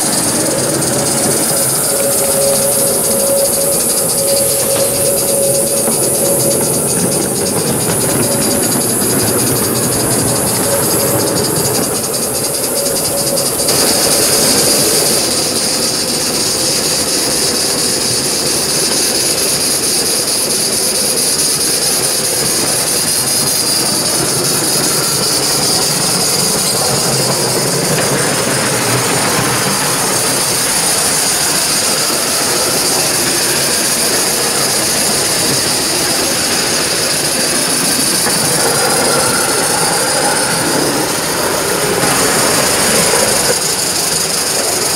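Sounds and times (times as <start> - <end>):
model train wheels on rails: 0.0 - 44.9
steam hissing: 0.0 - 44.9.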